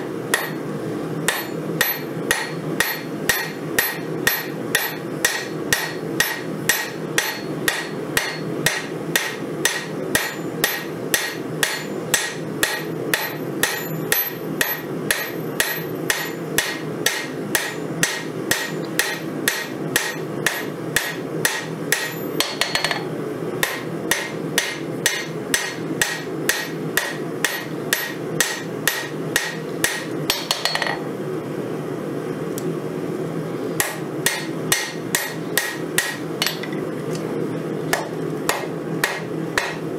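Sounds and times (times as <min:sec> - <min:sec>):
low steady hum: 0:00.0 - 0:39.9
hammer ringing on anvil: 0:00.3 - 0:00.6, 0:01.3 - 0:31.0, 0:33.8 - 0:36.7, 0:38.5 - 0:39.8.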